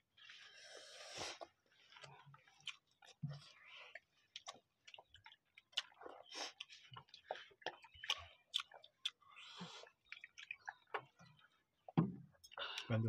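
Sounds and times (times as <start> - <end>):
chewing and mouth clicks: 0.2 - 12.9.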